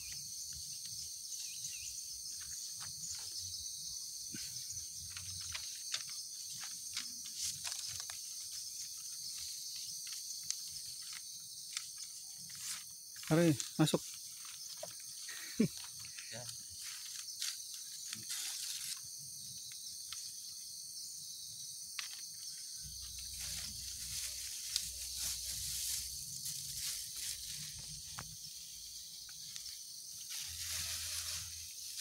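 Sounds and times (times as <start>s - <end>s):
insects droning: 0.0s - 32.0s
paper wrappers and leaves rustling: 2.3s - 3.5s, 4.3s - 20.4s, 22.0s - 32.0s.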